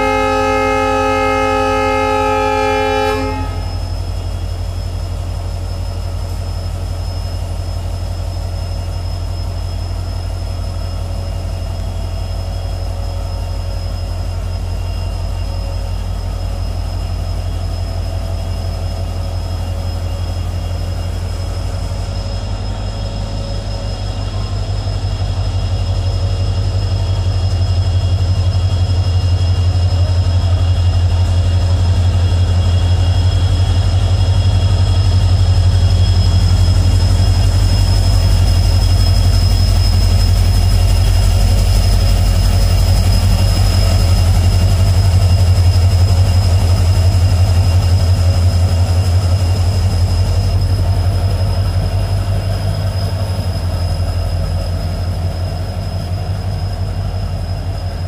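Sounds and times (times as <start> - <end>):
locomotive diesel engine rumbling: 0.0 - 58.0
train cars rolling by: 0.0 - 58.0.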